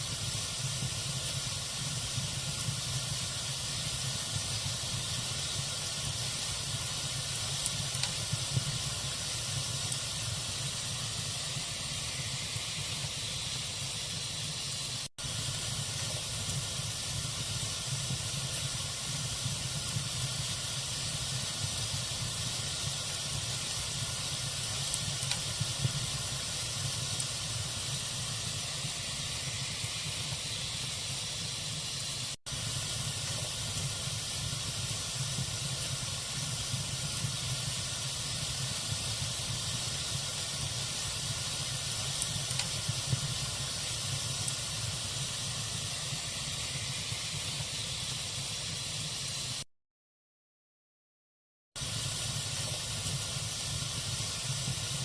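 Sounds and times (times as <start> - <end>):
log fire hissing and crackling: 0.0 - 49.7, 51.8 - 55.0.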